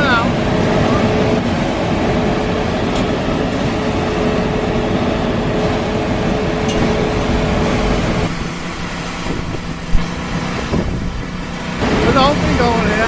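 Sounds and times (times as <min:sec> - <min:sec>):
concrete mixer truck engine: 0:00.0 - 0:13.0
constant whine: 0:00.0 - 0:13.0.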